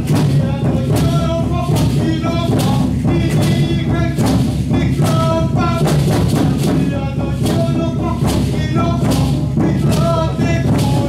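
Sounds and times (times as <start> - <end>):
loud steady drumbeat: 0.0 - 11.0.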